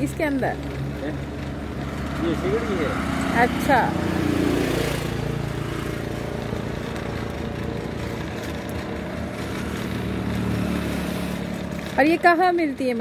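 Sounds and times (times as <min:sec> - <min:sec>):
hand-cranked blower whirring: 0:00.0 - 0:13.0.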